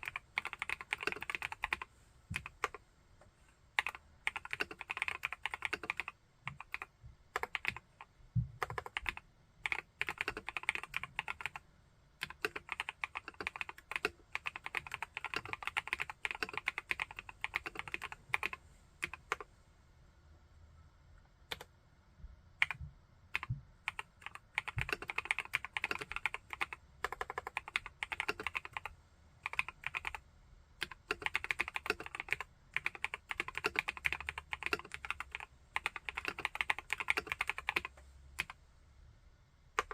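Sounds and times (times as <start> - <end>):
mechanical keyboard typing: 0.0 - 2.8, 3.8 - 11.6, 12.2 - 19.5, 22.6 - 30.2, 30.8 - 38.6.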